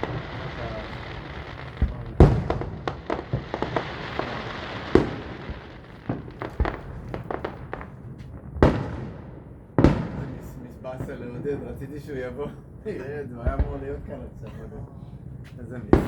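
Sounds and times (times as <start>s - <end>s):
fireworks popping and crackling: 0.0s - 12.2s, 13.4s - 14.4s, 15.3s - 16.0s
fireworks booms: 0.0s - 16.0s.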